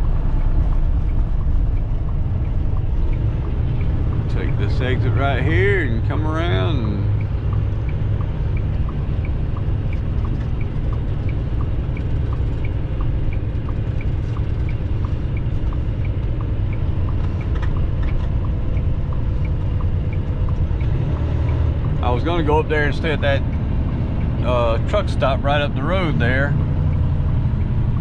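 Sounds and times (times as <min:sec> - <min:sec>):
truck engine and road rumble: 0:00.0 - 0:28.0
turn signal clicking: 0:00.0 - 0:28.0.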